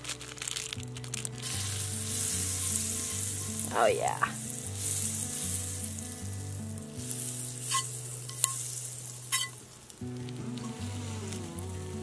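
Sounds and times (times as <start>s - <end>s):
bread sizzling in butter: 0.0s - 12.0s.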